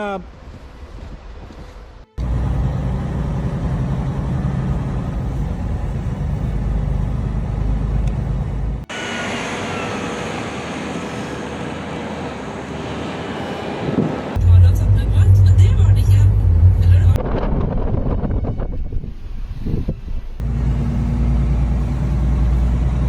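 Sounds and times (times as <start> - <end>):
motor vehicle rumble: 0.3 - 13.0, 13.8 - 23.0.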